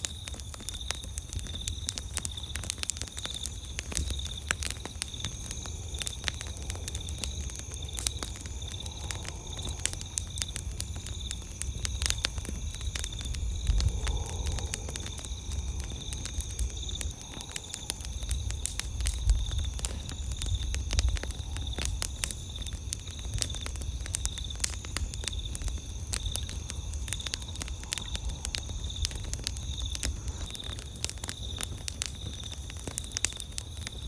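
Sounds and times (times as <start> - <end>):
campfire crackling and popping: 0.0 - 34.0
crickets chirping: 0.0 - 34.0.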